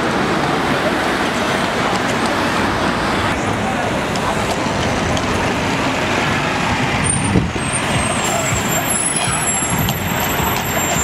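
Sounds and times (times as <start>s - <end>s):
bus engine passing: 0.0s - 11.0s
street traffic: 0.0s - 11.0s.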